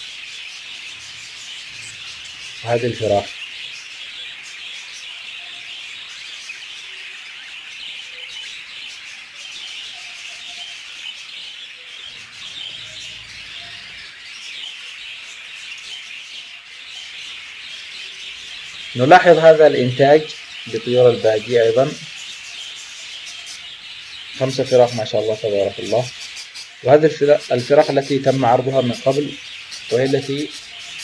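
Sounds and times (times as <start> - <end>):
budgerigars chirping: 0.0 - 31.0.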